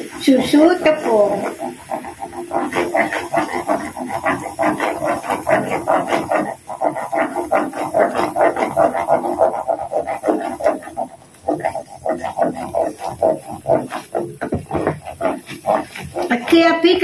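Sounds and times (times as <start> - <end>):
butter bubbling and sizzling: 0.0 - 17.0
wooden spoon scraping wok: 0.0 - 17.0.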